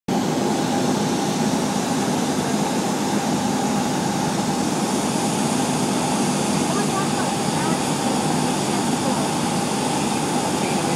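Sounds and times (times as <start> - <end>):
light plane engine drone: 0.1 - 10.9.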